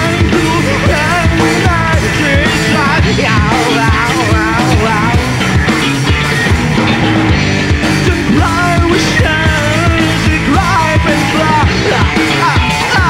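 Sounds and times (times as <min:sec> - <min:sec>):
man singing: 0:00.0 - 0:05.5, 0:07.8 - 0:13.0
rock band playing: 0:00.0 - 0:13.0.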